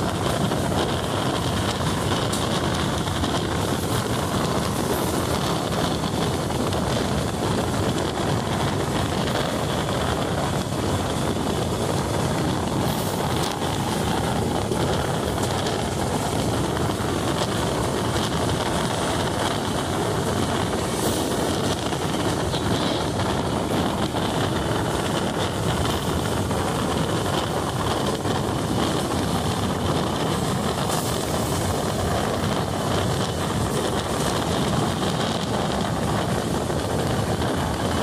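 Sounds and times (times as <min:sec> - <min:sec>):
train wheels rumbling on track: 0:00.0 - 0:38.0
wind: 0:00.0 - 0:38.0.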